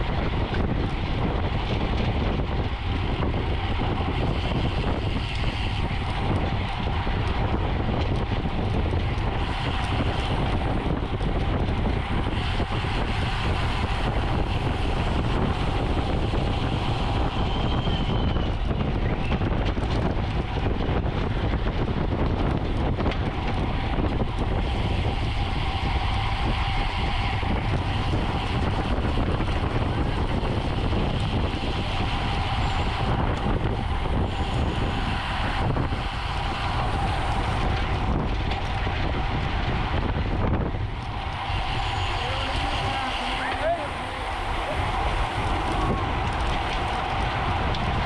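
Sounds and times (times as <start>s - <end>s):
bicycle tyres and drivetrain hum: 0.0s - 48.0s
wind rushing over microphone: 0.0s - 48.0s.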